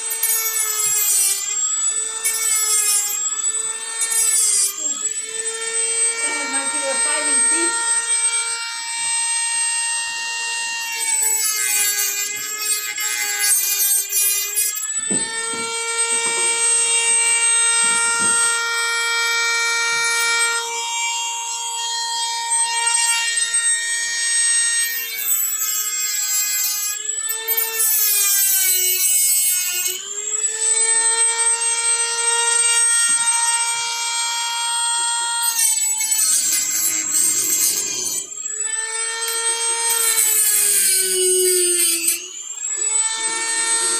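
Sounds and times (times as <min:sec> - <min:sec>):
rotary tool whining: 0:00.0 - 0:43.9.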